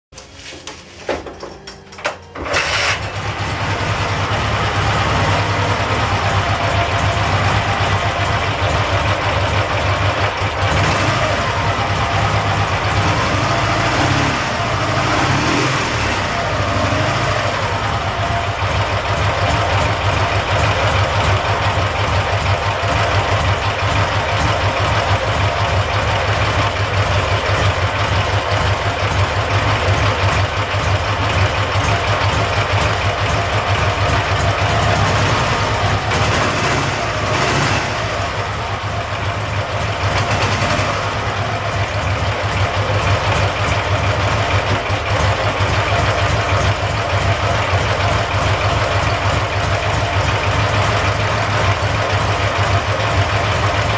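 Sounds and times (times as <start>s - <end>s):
motorcycle engine starting and running: 0.1s - 53.9s.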